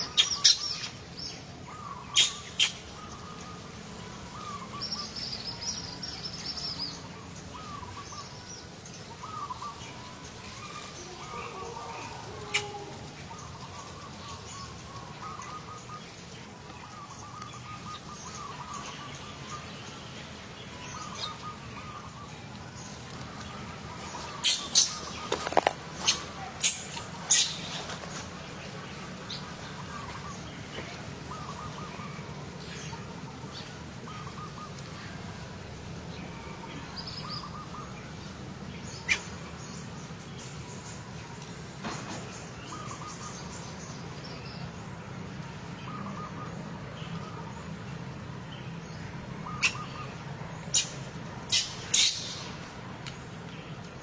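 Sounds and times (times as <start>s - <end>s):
bird chirping: 0.0s - 34.8s, 38.8s - 54.0s.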